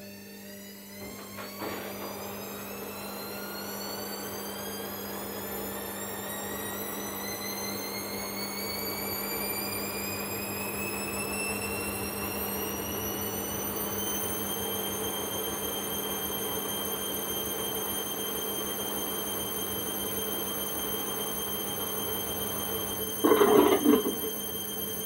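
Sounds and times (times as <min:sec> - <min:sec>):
washing machine motor whine: 0:00.0 - 0:25.0.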